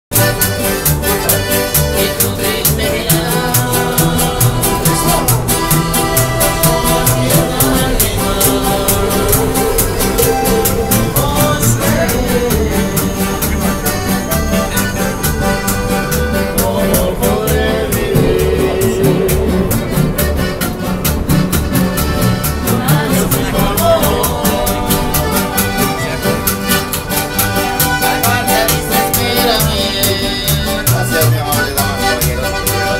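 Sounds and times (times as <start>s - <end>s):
accordion melody: 0.1s - 32.9s
acoustic guitar strumming: 0.1s - 32.9s
bass line: 0.1s - 32.9s
mariachi band playing: 0.1s - 32.9s.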